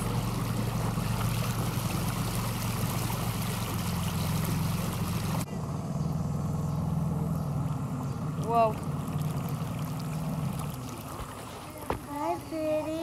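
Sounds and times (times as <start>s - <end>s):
boat motor humming: 0.0s - 13.0s
wind: 0.0s - 13.0s.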